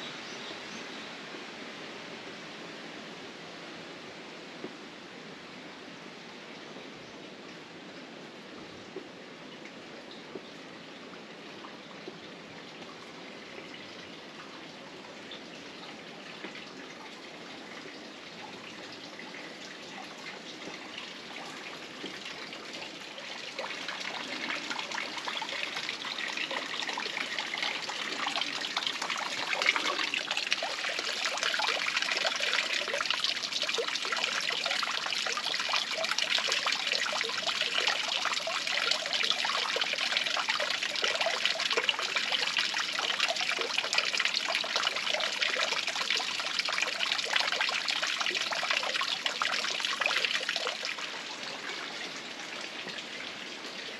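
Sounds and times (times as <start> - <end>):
water trickling and splashing: 7.5 - 53.9.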